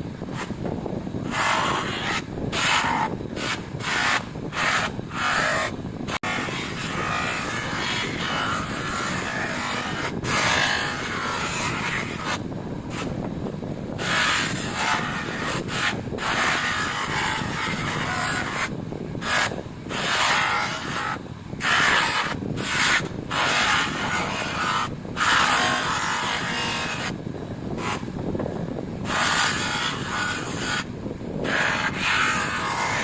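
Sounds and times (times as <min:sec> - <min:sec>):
steady low rumble: 0:00.0 - 0:32.9
hand rubbing metal: 0:01.2 - 0:13.2, 0:13.9 - 0:27.2, 0:29.0 - 0:33.0.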